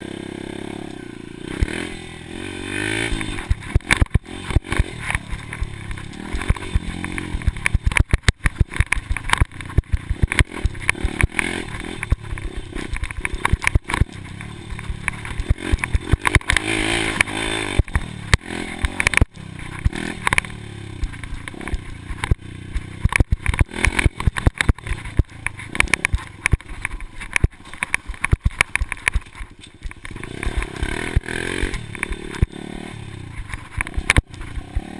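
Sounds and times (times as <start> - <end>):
dirt bike engine revving: 0.0 - 34.9
sharp knocks and rattles: 2.8 - 34.9.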